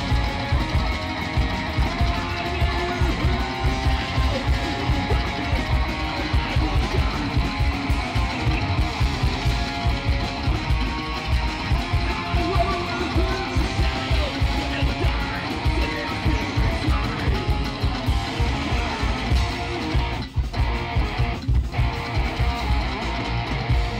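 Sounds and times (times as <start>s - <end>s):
rockabilly band playing live: 0.0s - 23.9s.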